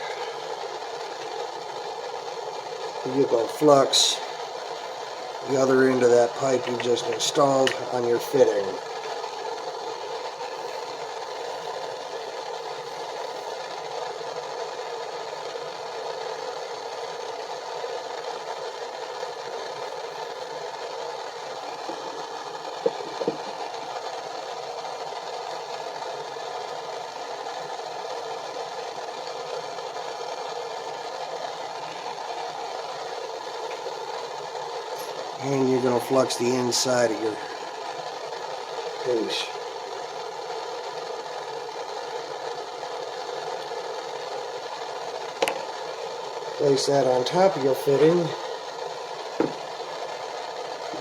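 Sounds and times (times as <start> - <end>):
propane torch hissing: 0.0 - 51.0.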